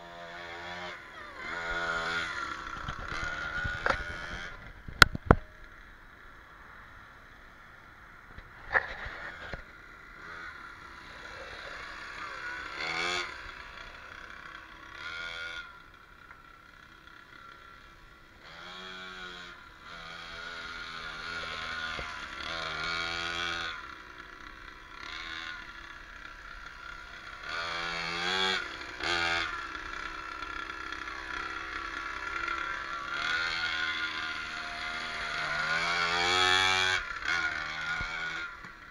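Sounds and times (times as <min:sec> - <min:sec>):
dirt bike engine revving: 0:00.0 - 0:05.8, 0:06.4 - 0:38.9.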